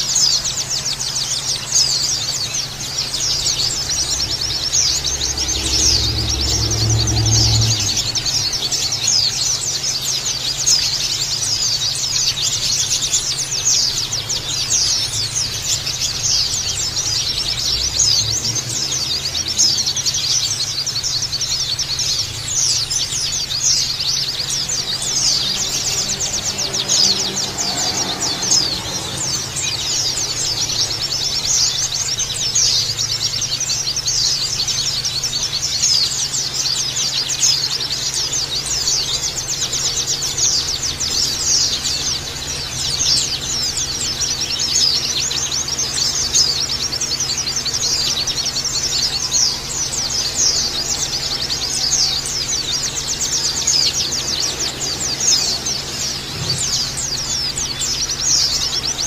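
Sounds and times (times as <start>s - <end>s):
birds twittering: 0.0s - 59.0s
steady low hum: 0.0s - 59.0s.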